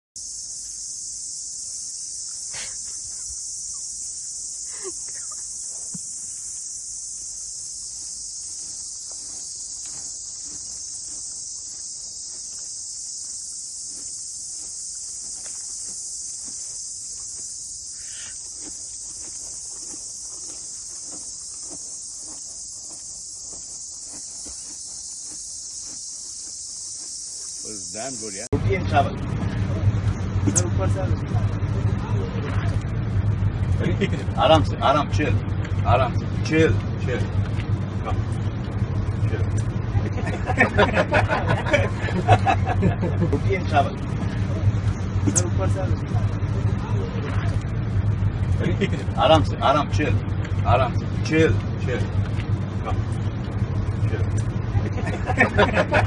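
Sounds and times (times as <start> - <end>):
high-pitched insect chorus: 0.2 - 56.0.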